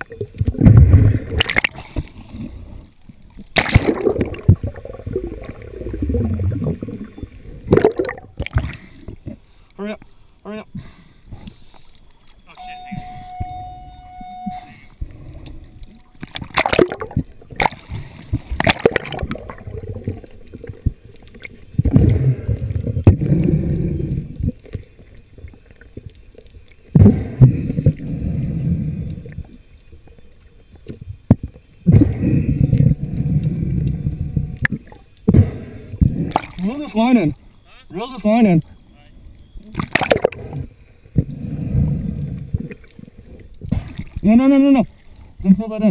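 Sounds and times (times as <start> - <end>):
water splashing and gurgling: 0.0 - 9.5, 13.0 - 37.4, 39.6 - 45.9.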